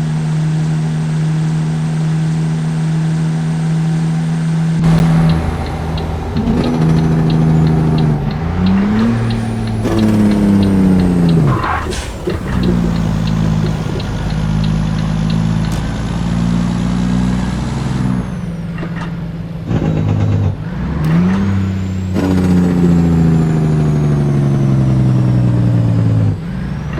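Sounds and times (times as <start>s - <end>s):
diesel truck engine revving: 0.0s - 26.9s.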